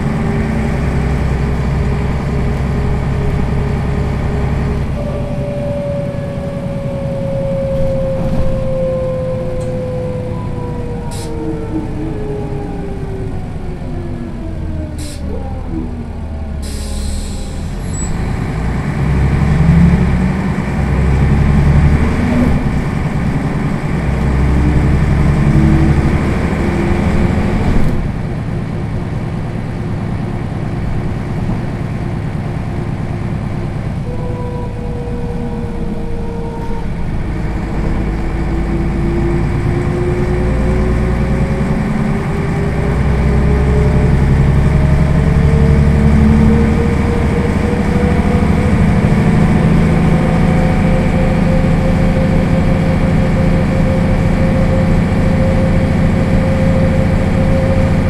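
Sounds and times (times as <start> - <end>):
bus diesel engine idling: 0.0 - 58.0.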